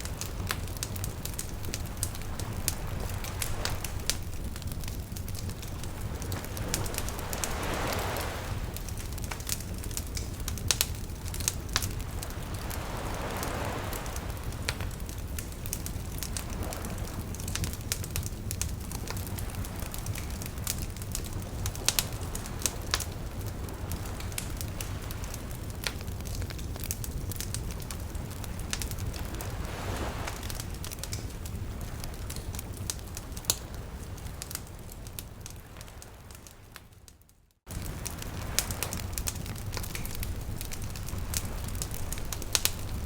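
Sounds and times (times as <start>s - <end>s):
campfire crackling and popping: 0.0s - 43.0s
low rumble of burning: 0.0s - 43.0s.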